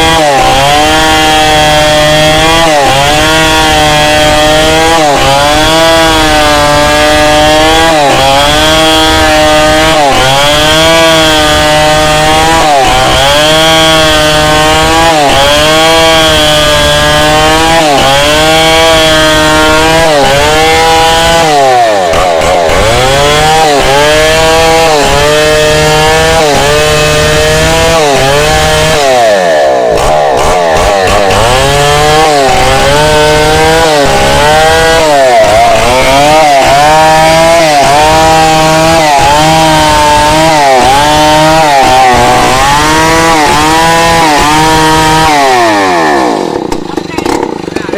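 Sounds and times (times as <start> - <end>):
chainsaw cutting log: 0.0 - 47.9.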